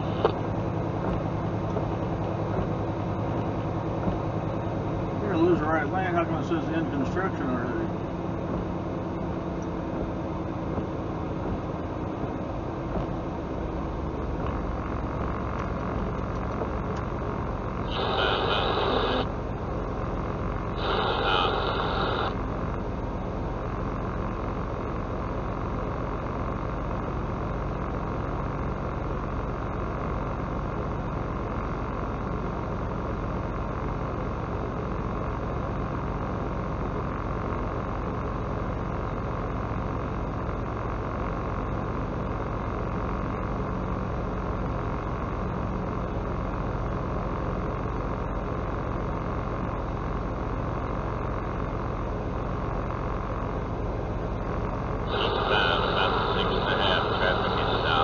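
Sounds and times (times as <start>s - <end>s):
truck engine and road drone: 0.0s - 58.0s.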